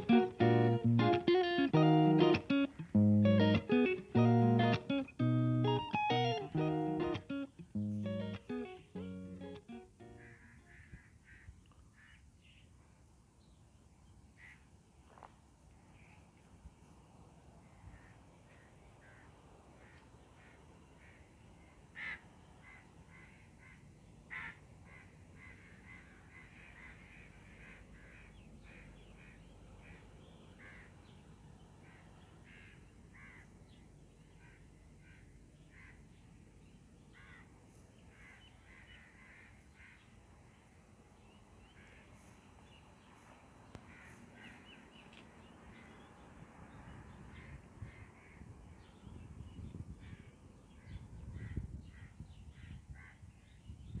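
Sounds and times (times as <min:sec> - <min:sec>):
birds calling faintly: 0:00.0 - 0:14.7, 0:15.8 - 0:54.0.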